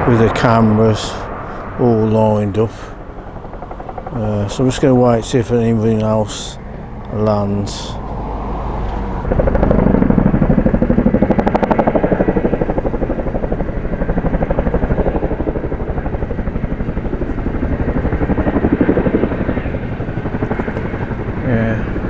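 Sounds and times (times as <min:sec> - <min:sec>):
helicopter rotor blades thudding: 0:00.0 - 0:22.0.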